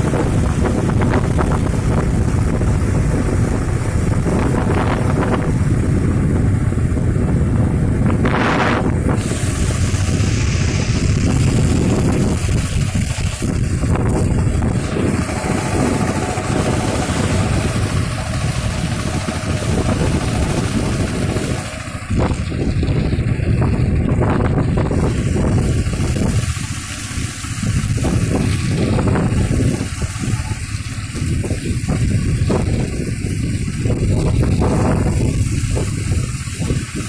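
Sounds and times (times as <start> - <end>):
low rumble: 0.0 - 37.0
wind buffeting microphone: 0.0 - 37.0.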